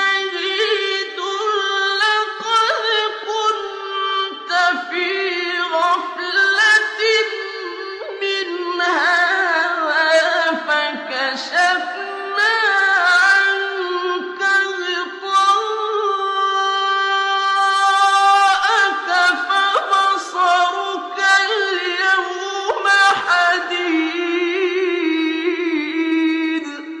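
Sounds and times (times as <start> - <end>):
man chanting melodically: 0.0 - 27.0.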